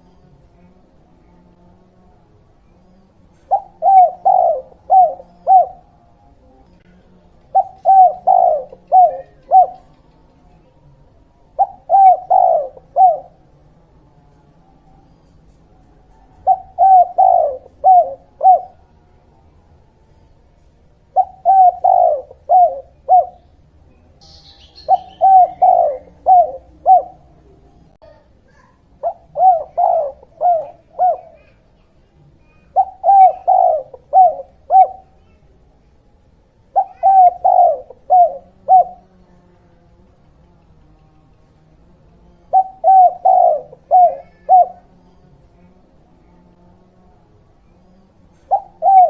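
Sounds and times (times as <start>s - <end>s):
dove cooing: 3.2s - 13.6s, 14.6s - 35.6s, 36.5s - 39.3s, 40.1s - 46.3s, 47.6s - 49.0s.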